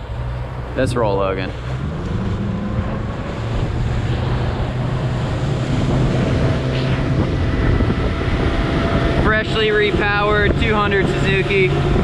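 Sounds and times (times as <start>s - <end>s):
outboard motor running: 0.8s - 12.0s
wind buffeting microphone: 1.5s - 12.0s.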